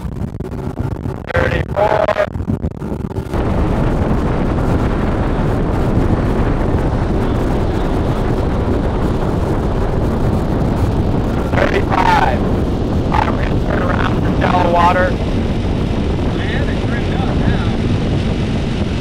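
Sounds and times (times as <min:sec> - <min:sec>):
outboard motor running: 0:00.0 - 0:19.0
wind noise on microphone: 0:00.0 - 0:19.0.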